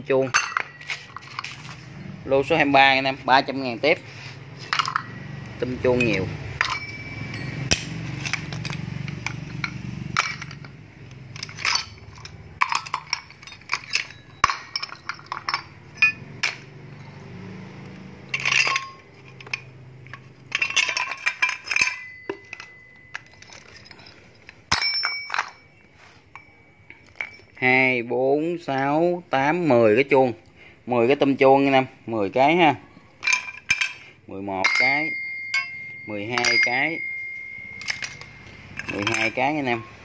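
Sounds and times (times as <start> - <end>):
metal part ringing: 0.0 - 1.8, 2.4 - 28.1, 32.9 - 40.0
metal parts clattering on concrete: 0.0 - 27.8, 33.0 - 40.0.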